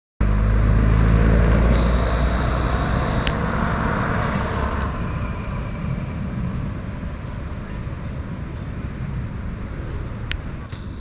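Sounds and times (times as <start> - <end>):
train engine rumble: 0.2 - 11.0.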